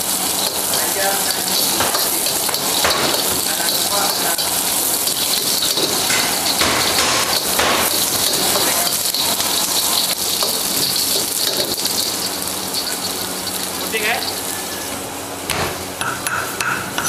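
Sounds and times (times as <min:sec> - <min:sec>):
beef sizzling in oil: 0:00.0 - 0:16.8.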